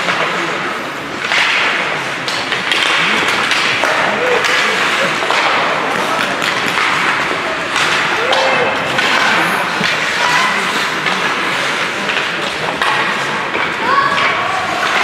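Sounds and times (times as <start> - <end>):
sticks and puck clacking: 0.0 - 15.0
skate blades scraping ice: 1.2 - 15.0.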